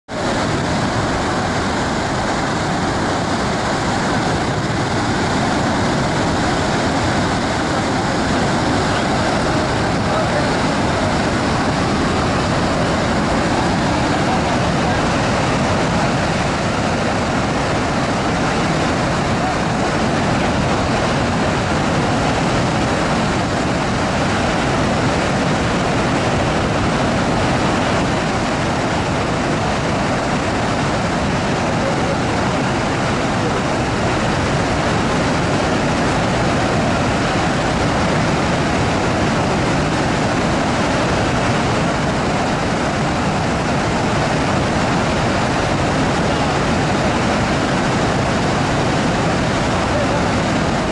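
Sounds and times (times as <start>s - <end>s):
waterfall rushing: 0.1s - 50.9s.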